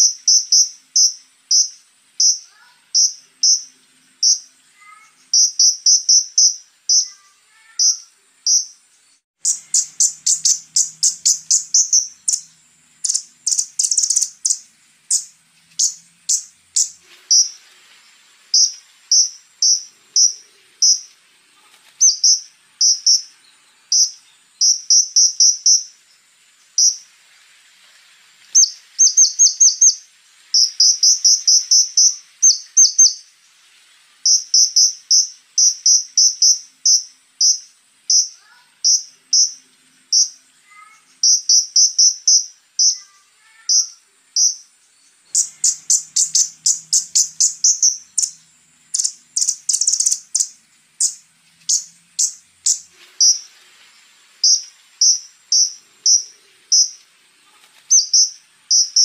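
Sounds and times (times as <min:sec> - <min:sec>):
bird high sharp chirps: 0:00.0 - 0:17.7, 0:18.5 - 0:21.2, 0:21.8 - 0:26.1, 0:26.7 - 0:27.1, 0:28.5 - 0:33.3, 0:34.2 - 0:53.5, 0:54.4 - 0:59.0
insect drone: 0:00.0 - 0:59.0.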